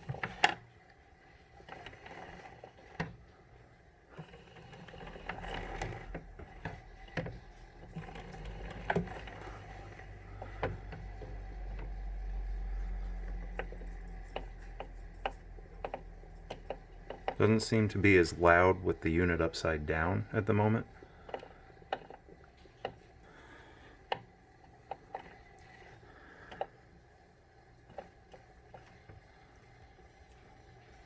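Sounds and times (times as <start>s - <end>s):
rowing machine flywheel humming: 0.0s - 31.0s.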